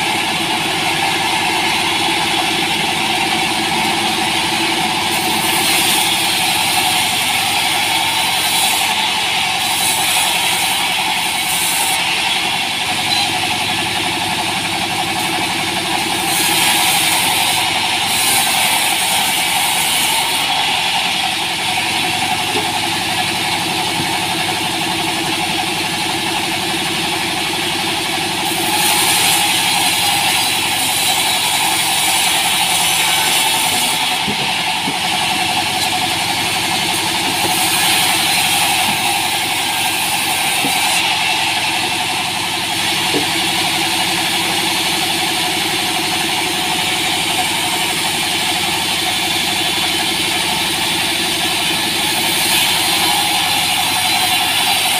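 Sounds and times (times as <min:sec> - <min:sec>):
saw blade rasping through log: 0:00.0 - 0:54.9
sawmill engine humming: 0:00.0 - 0:54.9.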